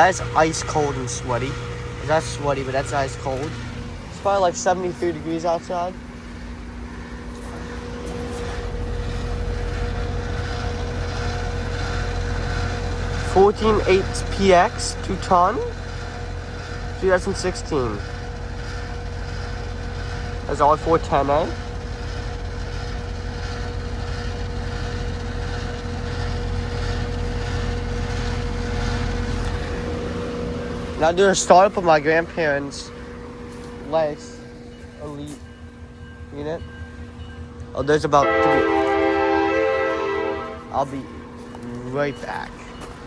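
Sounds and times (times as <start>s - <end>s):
heat pump humming: 0.0s - 43.0s.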